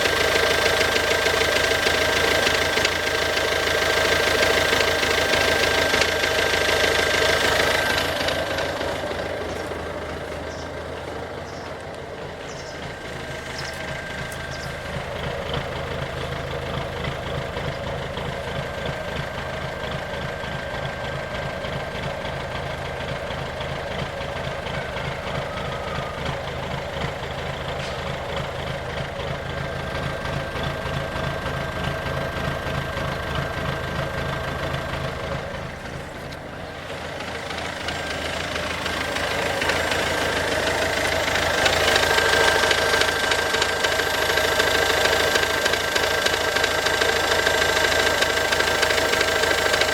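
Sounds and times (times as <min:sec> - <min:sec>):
diesel engine idling with knock: 0:00.0 - 0:49.9.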